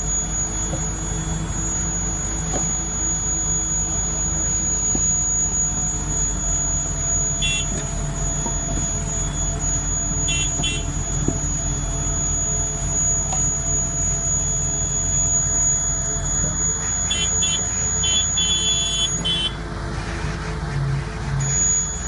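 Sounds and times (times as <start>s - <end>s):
electronic warning beeps: 0.0s - 19.6s, 21.4s - 22.0s
diesel engine running under load: 0.0s - 22.0s.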